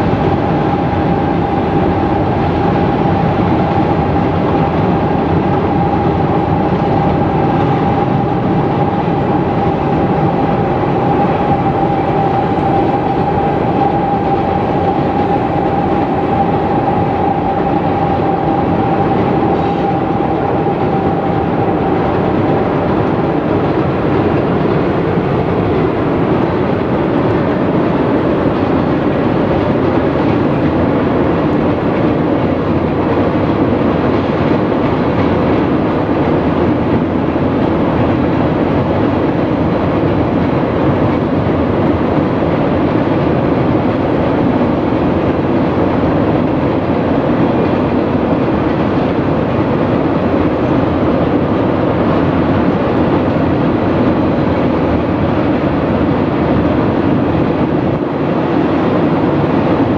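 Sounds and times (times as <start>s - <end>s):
freight train rolling over steel bridge: 0.0s - 59.9s.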